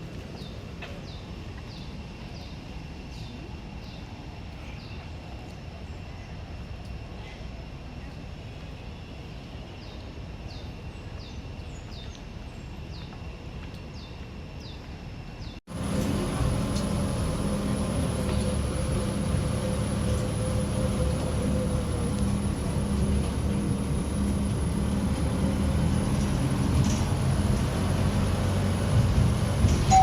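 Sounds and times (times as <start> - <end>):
mechanical hum with high whine: 0.0 - 30.0
outdoor background rumble: 0.0 - 30.0.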